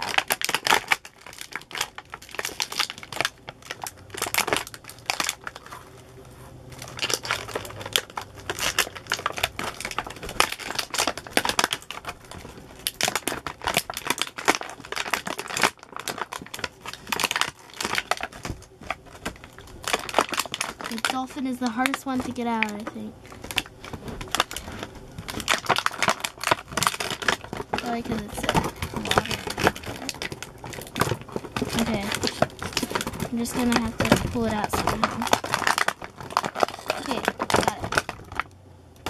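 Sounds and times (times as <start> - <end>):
plastic bag crinkling: 0.0 - 39.0.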